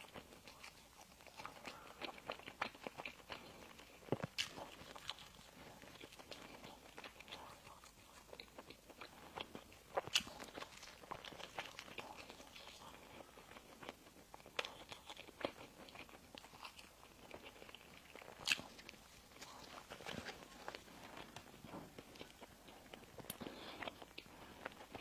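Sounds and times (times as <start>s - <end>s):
crisp bites and chewing: 0.0s - 25.0s.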